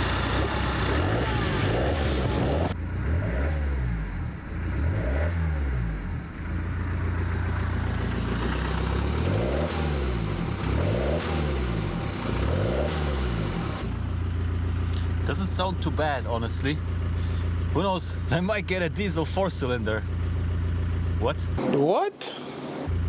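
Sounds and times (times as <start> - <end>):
diesel engine revving: 0.0 - 21.6.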